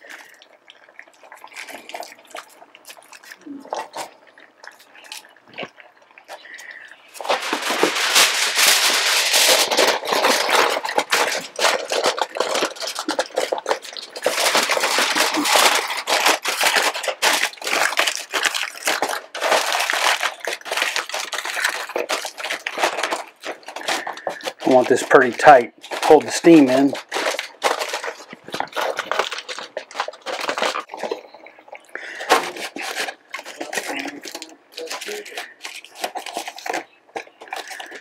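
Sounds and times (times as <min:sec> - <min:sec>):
aluminum foil crinkling: 0:00.0 - 0:38.0.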